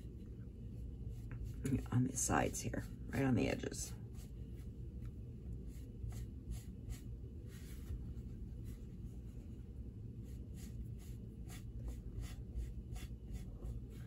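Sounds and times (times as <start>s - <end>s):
faint steady hum: 0.0s - 14.0s
brush dabbing ink on cardstock: 0.1s - 9.5s, 10.2s - 14.0s.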